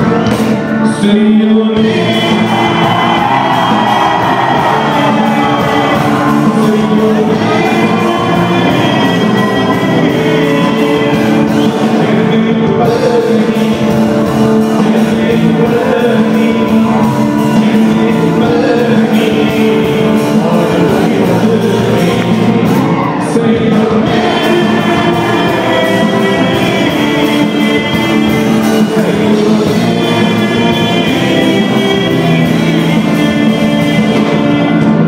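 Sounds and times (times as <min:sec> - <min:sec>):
drums: 0:00.0 - 0:35.0
electric guitars: 0:00.0 - 0:35.0
man singing: 0:00.0 - 0:35.0.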